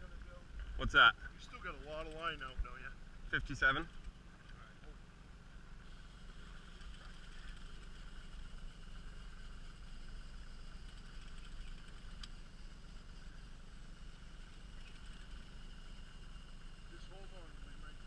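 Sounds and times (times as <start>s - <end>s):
outboard motor droning: 0.0s - 18.0s.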